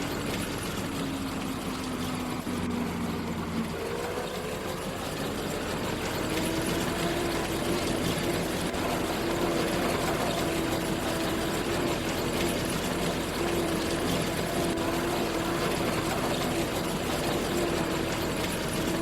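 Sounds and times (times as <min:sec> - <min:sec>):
harvest machinery engine: 0:00.0 - 0:19.0
wavering machine whine: 0:00.0 - 0:19.0.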